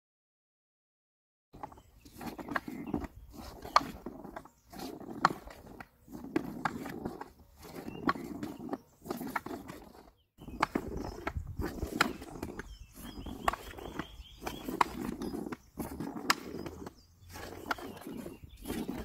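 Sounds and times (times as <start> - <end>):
hockey stick scraping surface: 1.6 - 19.0
stick clicking on puck: 2.1 - 19.0.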